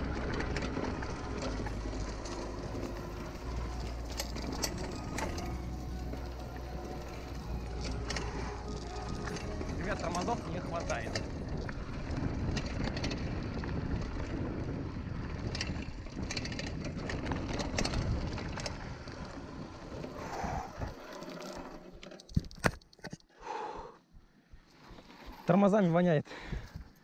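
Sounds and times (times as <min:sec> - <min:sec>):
bike rattling and clicking: 0:00.0 - 0:23.3
bike tyre and wind rumble: 0:00.0 - 0:27.0.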